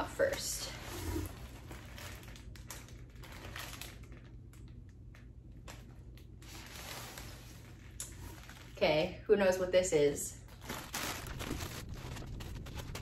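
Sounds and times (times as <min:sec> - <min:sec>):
wrapping rustling and crinkling: 0:00.0 - 0:09.2, 0:10.0 - 0:13.0.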